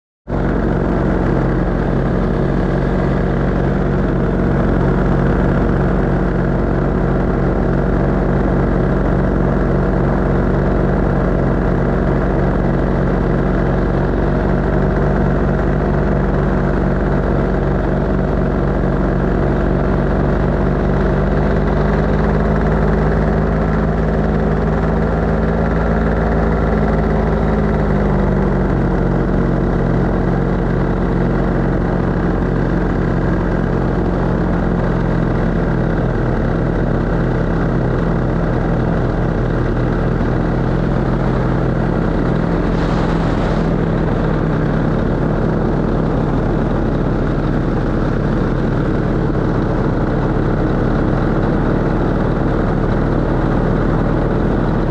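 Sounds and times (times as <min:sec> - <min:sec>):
paramotor engine droning: 0:00.3 - 0:54.9.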